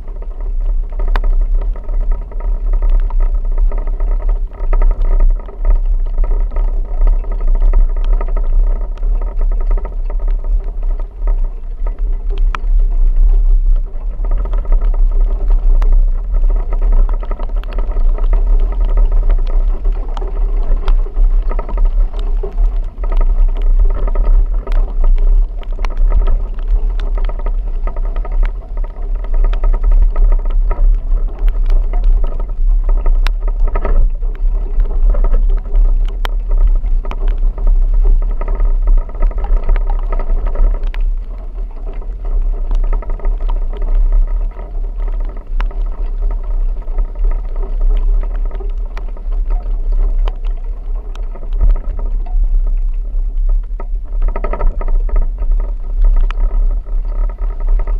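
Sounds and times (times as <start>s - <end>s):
sharp ticks: 0.0s - 57.9s
vehicle driving rumble: 0.0s - 57.9s.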